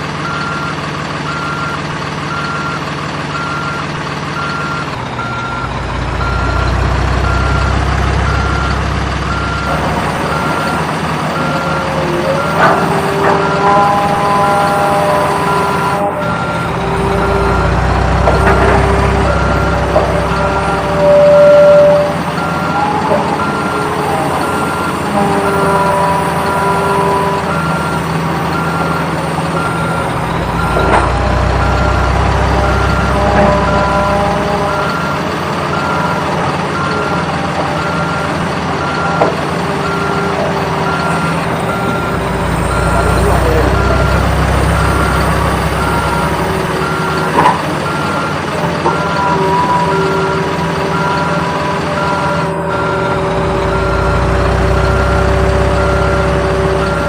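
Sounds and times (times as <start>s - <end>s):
simulated truck engine: 0.0s - 57.0s
reversing alarm beeping: 0.2s - 57.0s.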